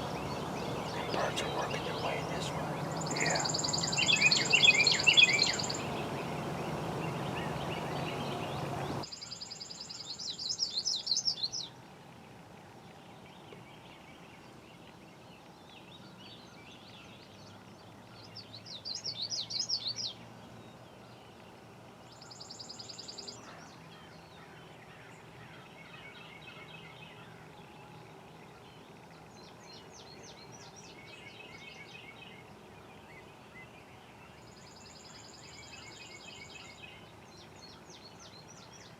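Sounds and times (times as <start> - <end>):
songbirds trilling: 0.0 - 11.8, 12.6 - 38.9.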